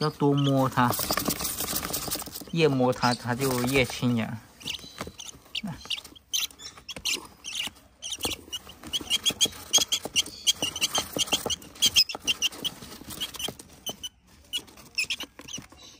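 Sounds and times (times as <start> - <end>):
chicks squeaky chirping: 0.0 - 15.9.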